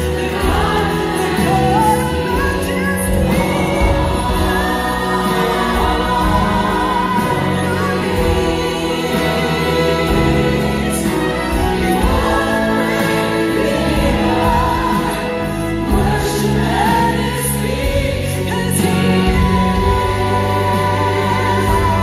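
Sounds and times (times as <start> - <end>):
choir singing with accompaniment: 0.0 - 22.0.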